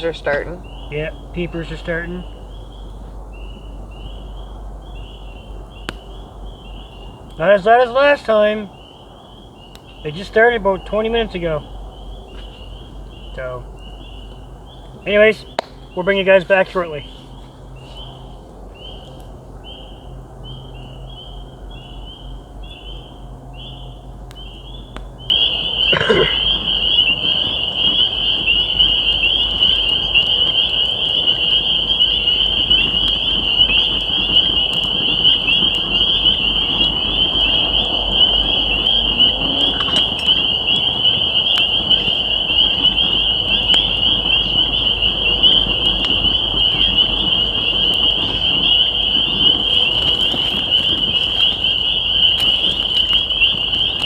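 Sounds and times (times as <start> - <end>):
spring peepers calling: 0.0 - 54.0.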